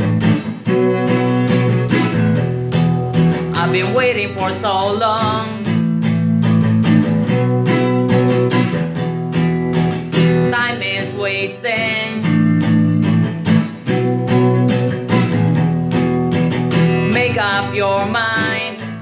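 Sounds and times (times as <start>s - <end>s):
electric guitar strumming chords: 0.0s - 19.0s.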